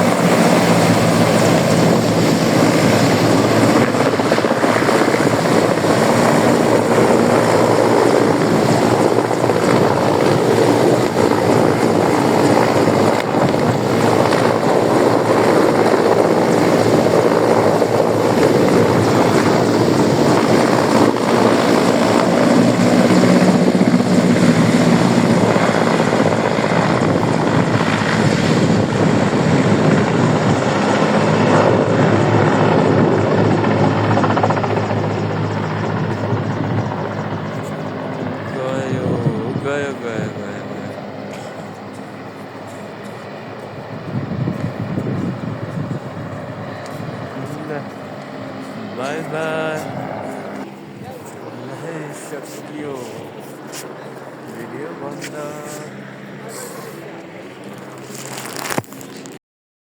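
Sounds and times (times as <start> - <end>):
helicopter engines and rotor: 0.0 - 59.4.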